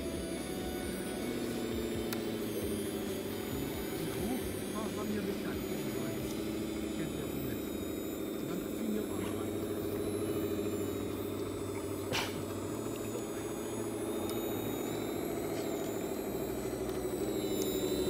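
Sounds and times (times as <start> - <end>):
toy truck motors whining: 0.0 - 18.0.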